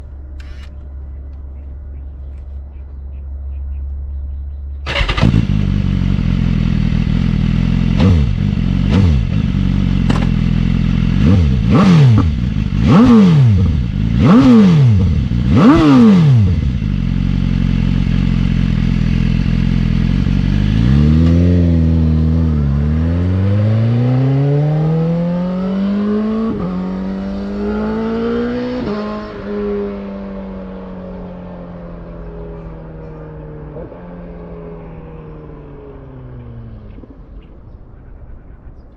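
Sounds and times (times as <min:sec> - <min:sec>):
motorcycle engine revving: 0:04.8 - 0:37.3.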